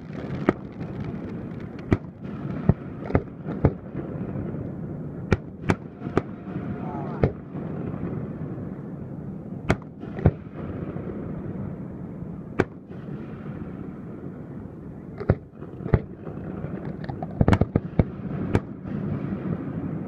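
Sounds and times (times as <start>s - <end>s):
fireworks bangs: 0.0s - 11.9s, 12.5s - 20.0s.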